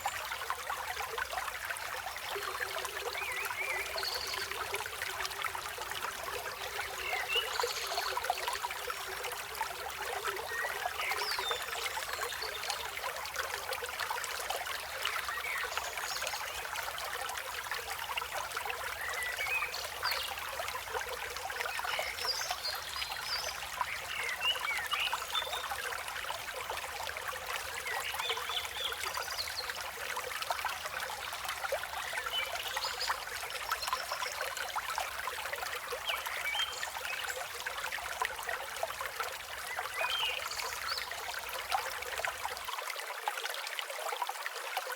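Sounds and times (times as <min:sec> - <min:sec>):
river water flowing over stones: 0:00.0 - 0:44.9.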